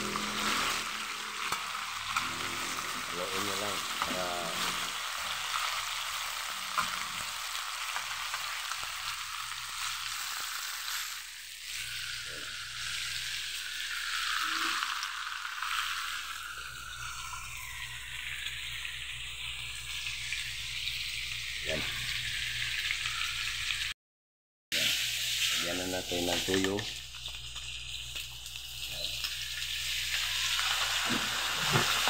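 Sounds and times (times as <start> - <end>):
meat sizzling in a pan: 0.0 - 23.9, 24.7 - 32.0.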